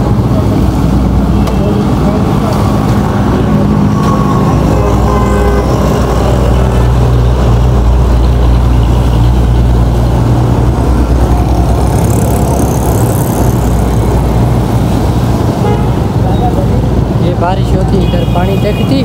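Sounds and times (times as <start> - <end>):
vehicle engine humming: 0.0 - 19.0
vehicles passing on wet road: 0.0 - 19.0.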